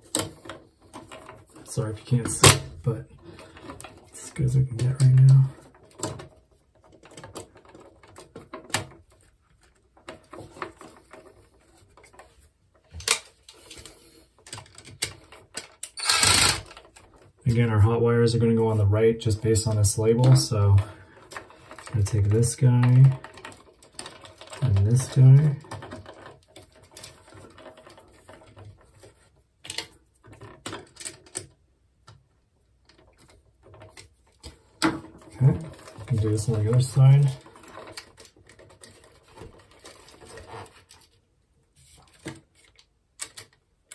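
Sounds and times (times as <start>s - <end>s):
clicks and scrapes of copper wiring: 0.0s - 32.2s, 32.8s - 43.9s.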